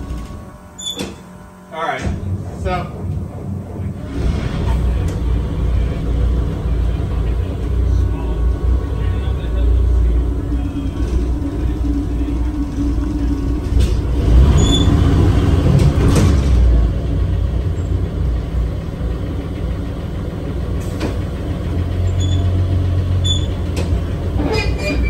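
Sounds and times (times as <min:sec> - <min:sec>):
bus engine running: 0:00.0 - 0:25.0.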